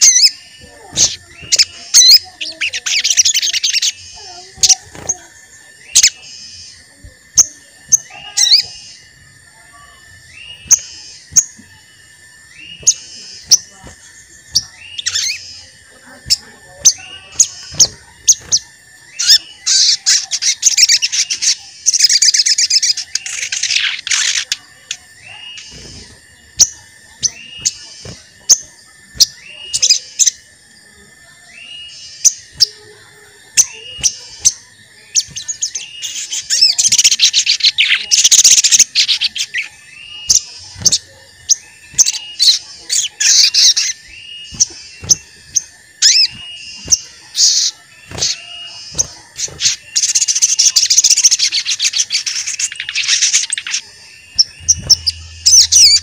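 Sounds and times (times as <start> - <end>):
bird chattering trills: 0.0 - 56.0
sunbird chirping: 0.0 - 56.0.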